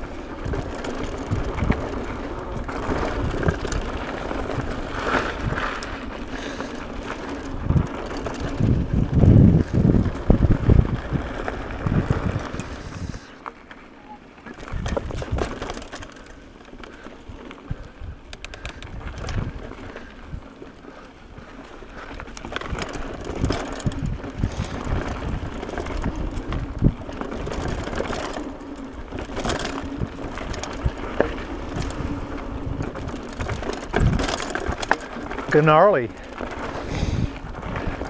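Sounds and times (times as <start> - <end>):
wind rumbling on microphone: 0.0 - 13.4, 14.5 - 38.0
bike rattling and knocking: 0.0 - 13.7, 14.4 - 38.0
tyres on dirt and leaves: 0.0 - 38.0.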